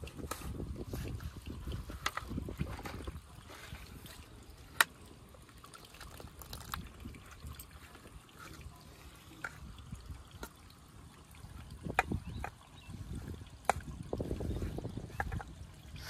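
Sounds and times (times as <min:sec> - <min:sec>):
liquid trickling into steel bowl: 0:00.0 - 0:16.0.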